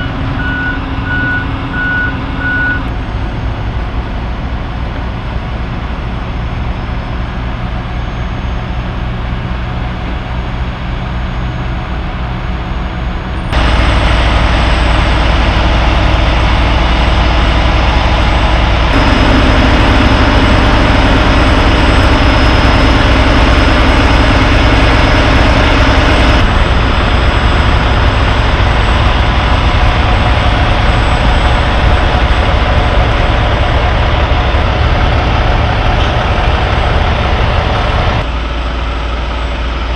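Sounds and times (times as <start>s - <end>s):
diesel truck engines rumbling: 0.0s - 39.9s.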